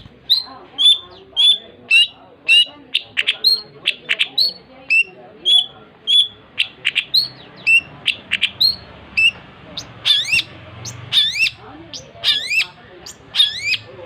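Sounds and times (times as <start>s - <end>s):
shrike singing: 0.0s - 14.0s.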